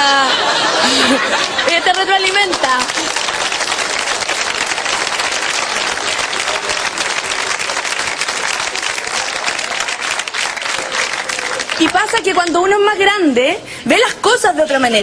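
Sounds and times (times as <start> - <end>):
audience applauding: 0.4 - 12.8.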